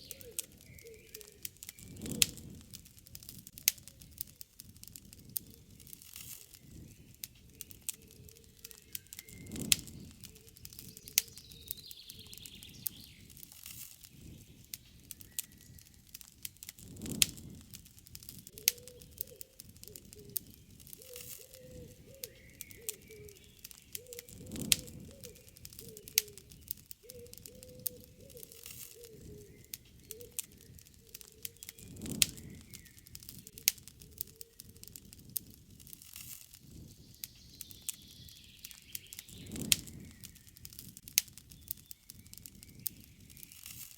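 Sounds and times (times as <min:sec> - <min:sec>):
birds calling: 0:00.0 - 0:02.5, 0:05.4 - 0:16.3, 0:18.4 - 0:34.9, 0:36.6 - 0:43.7
campfire crackling: 0:00.0 - 0:43.9.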